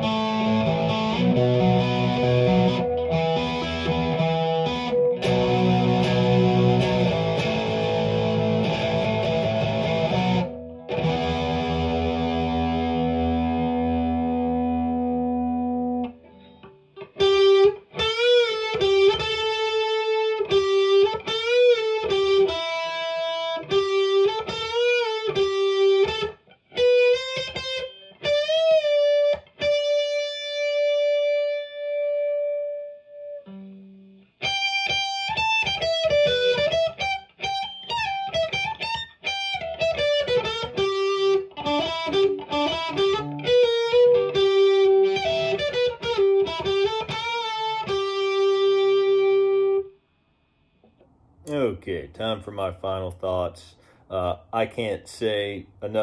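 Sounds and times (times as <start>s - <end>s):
electric guitar playing: 0.0s - 50.0s.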